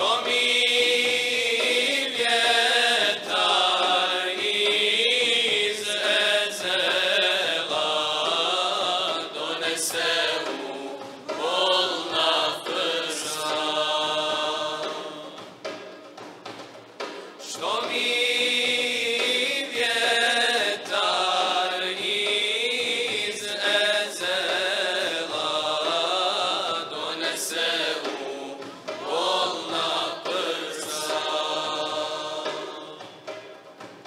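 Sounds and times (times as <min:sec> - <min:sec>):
men singing a hymn: 0:00.0 - 0:15.6, 0:17.5 - 0:33.4.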